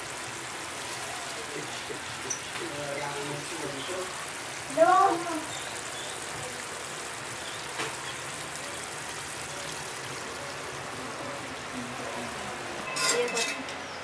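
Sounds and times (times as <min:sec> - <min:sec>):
pot simmering with watery hiss: 0:00.0 - 0:14.0.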